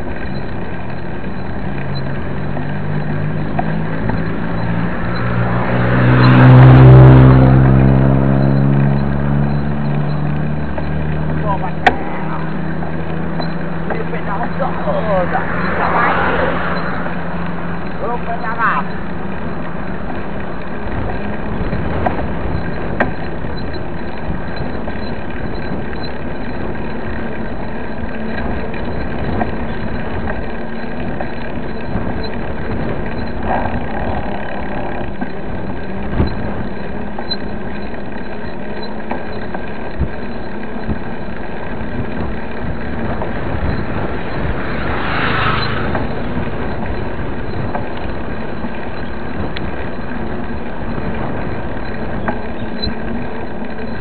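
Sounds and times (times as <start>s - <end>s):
bike tyres rolling on asphalt: 0.0s - 54.0s
wind rushing over microphone: 2.2s - 37.0s, 41.8s - 54.0s
bike knocks and rattles: 8.5s - 54.0s.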